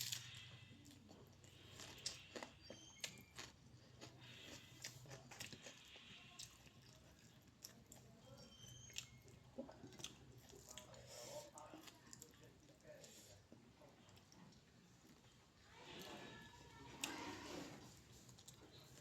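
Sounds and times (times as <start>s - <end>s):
person chewing food: 0.0s - 15.4s, 17.0s - 19.0s.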